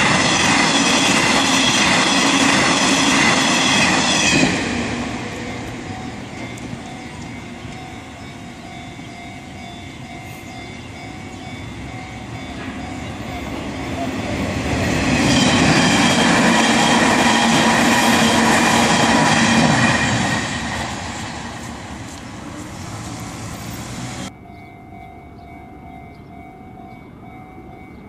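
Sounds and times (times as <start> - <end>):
crossing warning bells ringing: 0.0 - 28.0
train passing: 0.0 - 28.0.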